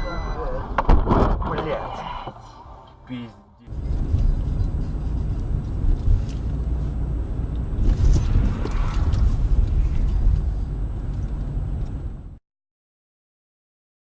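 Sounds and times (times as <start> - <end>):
car engine and road rumble: 0.0 - 12.4.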